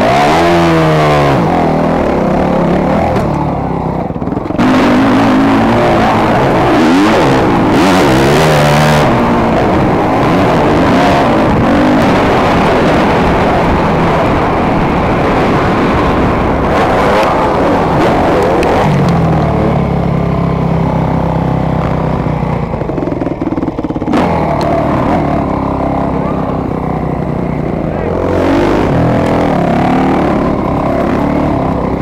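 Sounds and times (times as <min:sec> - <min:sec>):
motocross bike engine revving: 0:00.0 - 0:32.0
track noise: 0:00.0 - 0:32.0
wind noise: 0:00.0 - 0:32.0.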